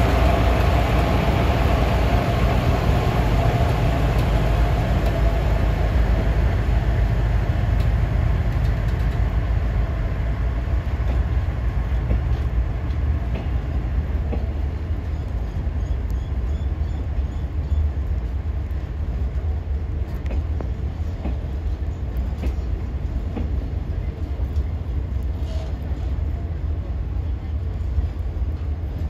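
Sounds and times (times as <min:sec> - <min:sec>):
low rumble of wheels on track: 0:00.0 - 0:29.0.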